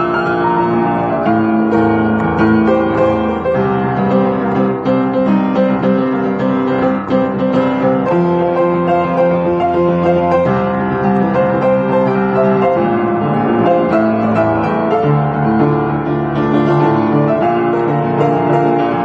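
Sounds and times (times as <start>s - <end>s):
upright piano playing: 0.0s - 19.0s.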